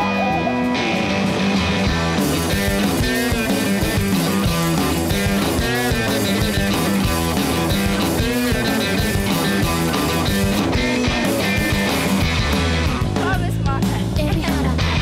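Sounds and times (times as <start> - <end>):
drums beating: 0.0 - 15.0
rock music: 0.0 - 15.0.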